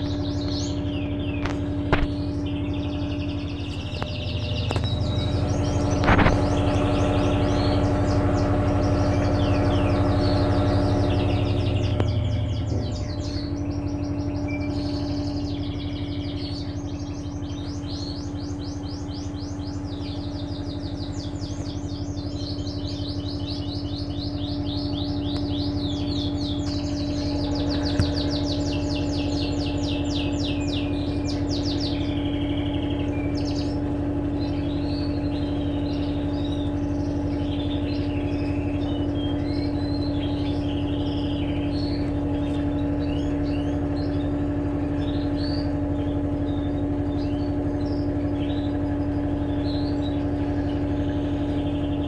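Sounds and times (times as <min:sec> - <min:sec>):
birds chirping in trills: 0:00.0 - 0:52.0
washing machine motor hum: 0:00.0 - 0:52.0.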